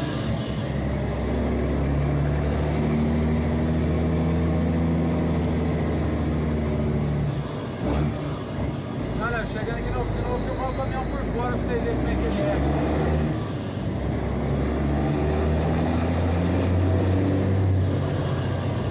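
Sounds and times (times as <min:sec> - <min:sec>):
diesel truck engine running: 0:00.0 - 0:18.9.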